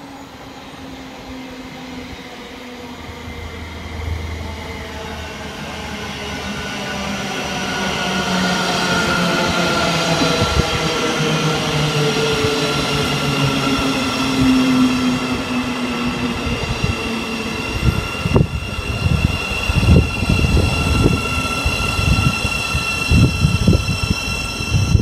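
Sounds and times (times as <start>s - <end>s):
train passing with whine: 0.0s - 25.0s.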